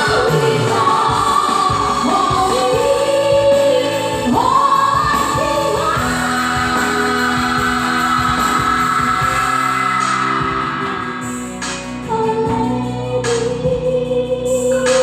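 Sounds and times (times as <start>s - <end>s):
woman singing: 0.0s - 11.2s, 12.0s - 15.0s.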